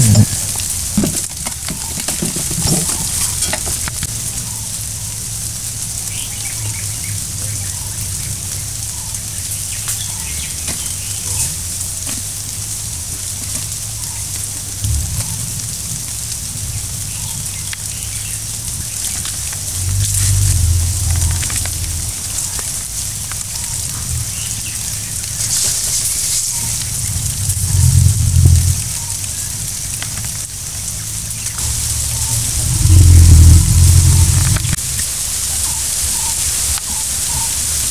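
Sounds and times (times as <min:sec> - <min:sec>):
low rumbling: 0:00.0 - 0:35.6
steady high-pitched hiss: 0:00.0 - 0:37.9.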